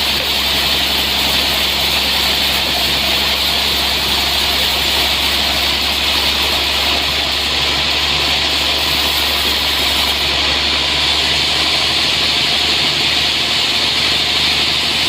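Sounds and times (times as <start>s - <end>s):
sawmill engine drone: 0.0s - 15.0s.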